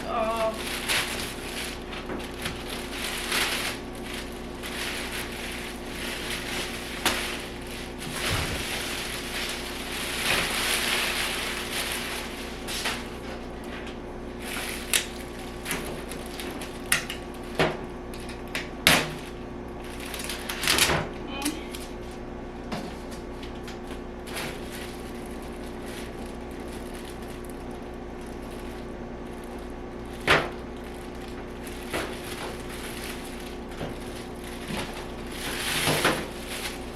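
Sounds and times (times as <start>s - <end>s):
plastic wrapping crinkling: 0.0s - 18.6s, 19.2s - 20.8s, 23.0s - 36.9s.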